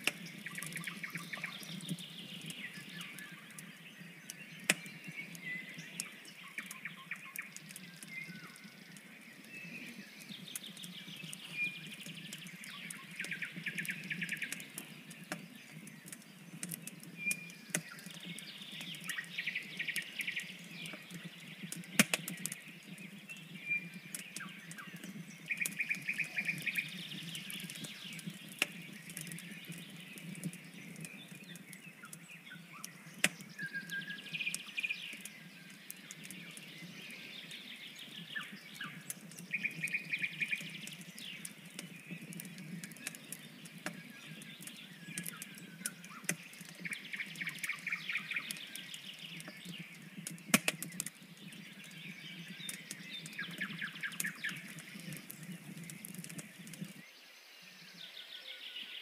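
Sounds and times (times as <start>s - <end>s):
songbirds singing trilled phrases: 0.0s - 59.0s.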